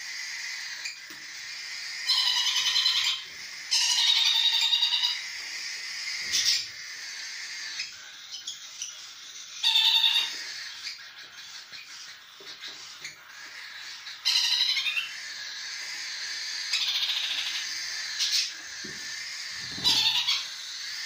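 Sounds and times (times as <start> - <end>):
young parrots begging calls: 0.0 - 21.0.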